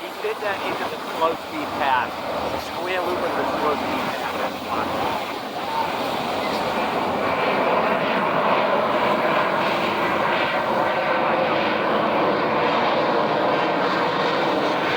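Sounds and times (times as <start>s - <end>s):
jet engine roar: 0.0s - 14.9s.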